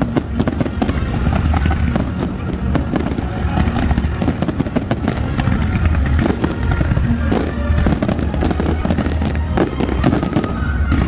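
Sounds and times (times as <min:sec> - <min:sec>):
fireworks bangs and crackles: 0:00.0 - 0:11.0
low rumble: 0:00.0 - 0:11.0.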